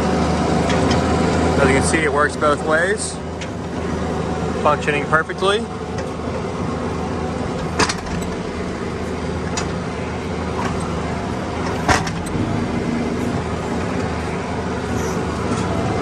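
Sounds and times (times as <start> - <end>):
mini excavator diesel running: 0.0 - 16.0.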